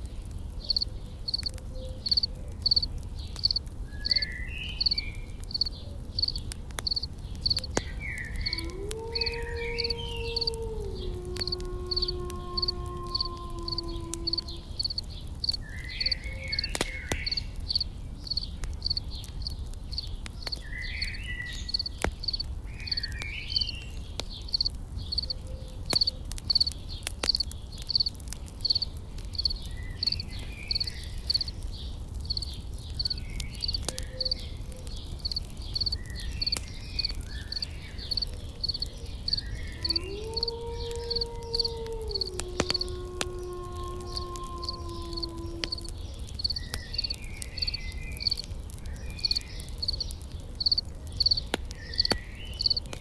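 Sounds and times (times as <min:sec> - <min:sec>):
campfire crackling: 0:00.0 - 0:53.0
insects chirping: 0:00.7 - 0:07.6, 0:11.4 - 0:23.8, 0:24.5 - 0:31.6, 0:32.2 - 0:34.5, 0:35.2 - 0:47.9, 0:49.2 - 0:50.0, 0:50.6 - 0:52.9.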